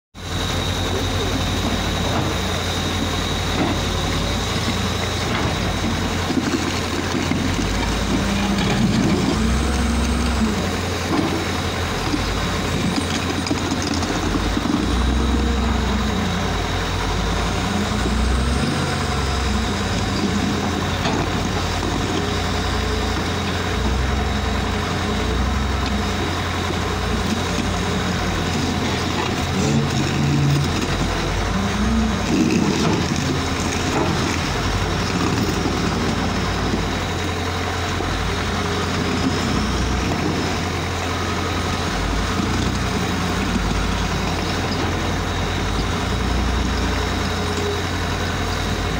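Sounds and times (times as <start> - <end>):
wheel loader diesel engine: 0.1 - 48.9.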